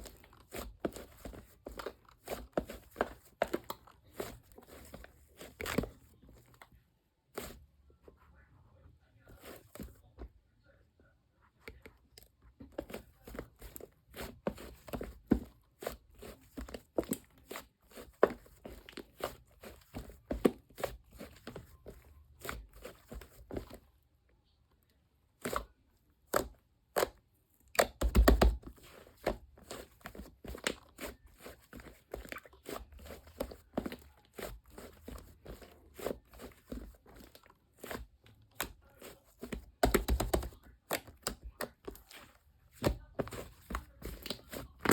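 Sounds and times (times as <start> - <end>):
crunching and crinkling: 0.0 - 8.1, 9.2 - 10.4, 11.6 - 44.9.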